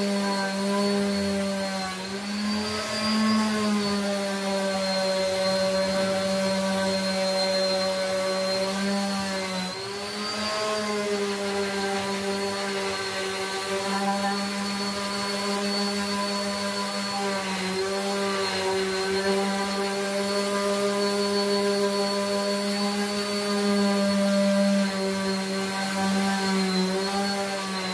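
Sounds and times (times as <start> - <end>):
orbital sander running: 0.0 - 27.9.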